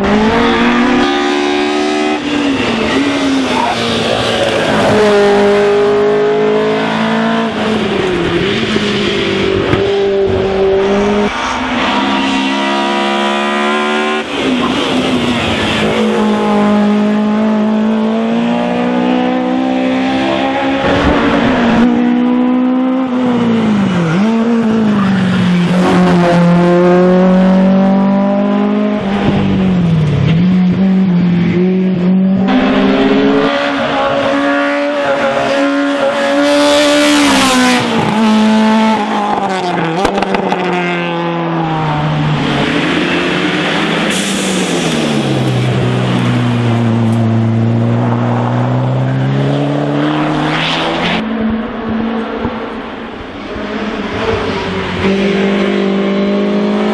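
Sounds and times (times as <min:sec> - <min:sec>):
race car engines revving: 0:00.0 - 0:56.9.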